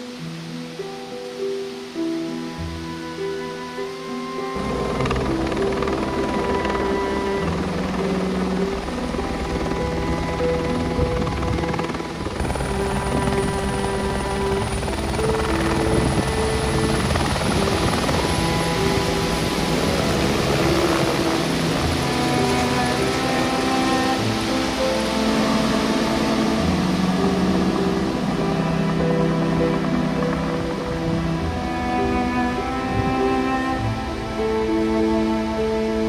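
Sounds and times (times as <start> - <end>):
slow background music: 0.0 - 36.0
helicopter rotor: 4.5 - 36.0.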